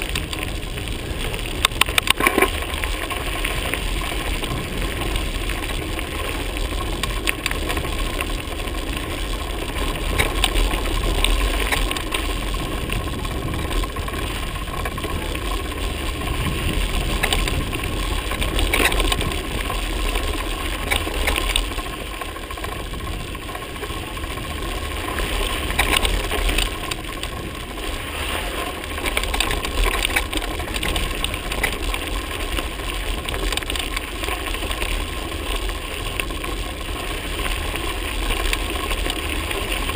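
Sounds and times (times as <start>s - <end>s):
bike clicks and rattles: 0.0s - 39.9s
bike tyres on gravel: 0.0s - 39.9s
wind rumble on microphone: 0.0s - 39.9s.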